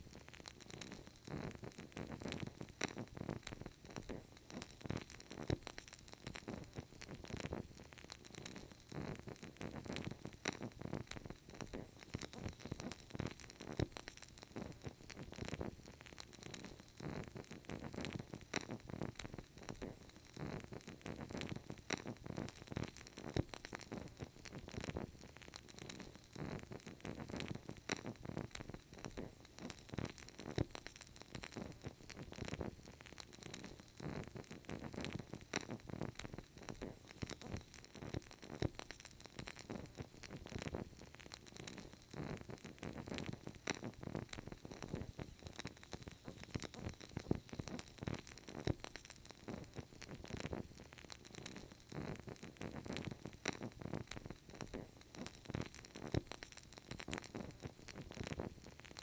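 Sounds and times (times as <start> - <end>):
candle wick crackling: 0.0 - 59.0
faint steady hiss: 0.0 - 59.0.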